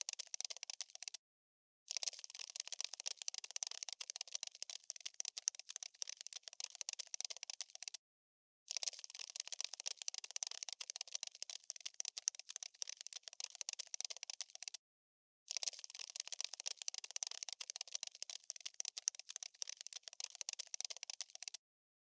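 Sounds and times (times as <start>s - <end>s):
cockroach skittering clicks: 0.0s - 1.2s, 1.9s - 8.0s, 8.7s - 14.8s, 15.5s - 21.6s.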